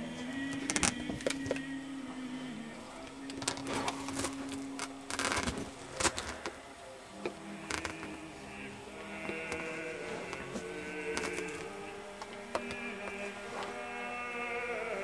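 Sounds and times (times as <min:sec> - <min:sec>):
soft sustained music chords: 0:00.0 - 0:15.0.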